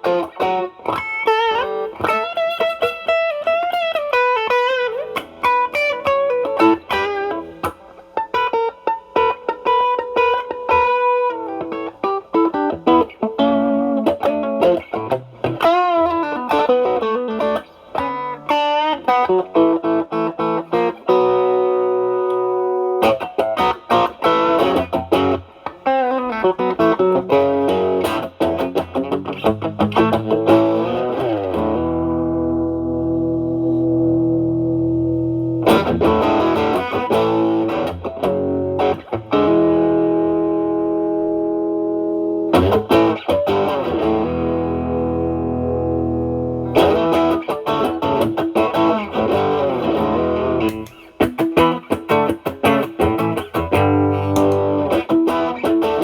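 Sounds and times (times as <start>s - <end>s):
overdriven electric guitar: 0.0s - 56.0s.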